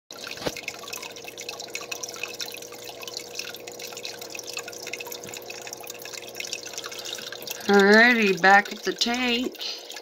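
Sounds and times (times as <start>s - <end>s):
aquarium water trickling and dripping: 0.1s - 10.0s
steady hum: 0.2s - 10.0s.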